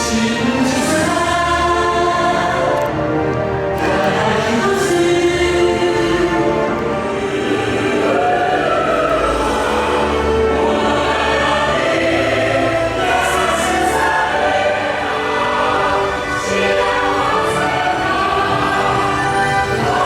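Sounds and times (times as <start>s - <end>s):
choir singing sustained chords: 0.0s - 20.0s.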